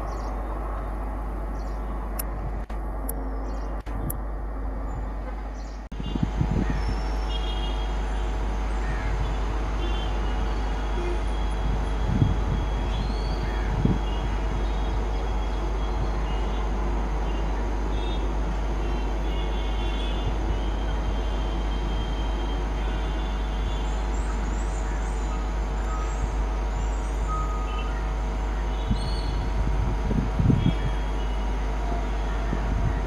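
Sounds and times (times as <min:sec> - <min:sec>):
locomotive engine droning: 0:00.0 - 0:33.0.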